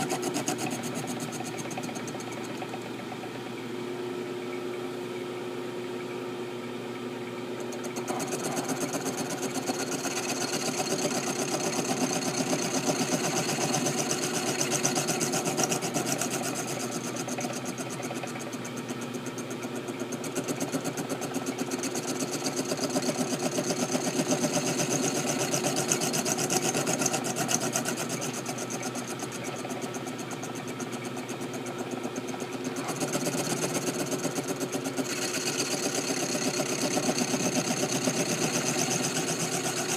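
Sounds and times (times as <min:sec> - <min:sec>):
machine tool motor hum: 0:00.0 - 0:39.9.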